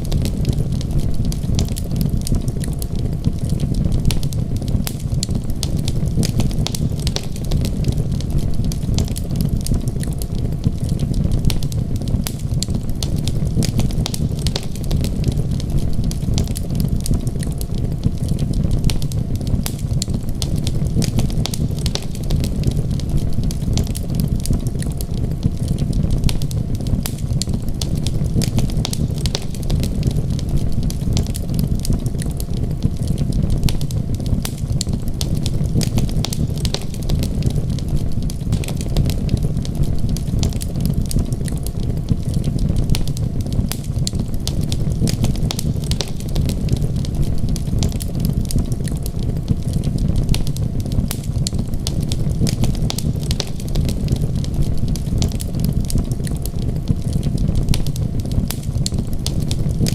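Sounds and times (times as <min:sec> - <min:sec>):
rain and storm rumble: 0:00.0 - 0:59.9
wood fire crackling: 0:00.0 - 0:59.9.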